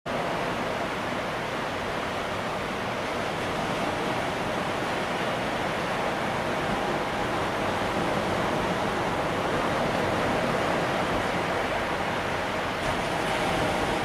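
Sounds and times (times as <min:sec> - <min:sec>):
ocean surf rushing: 0:00.1 - 0:14.0.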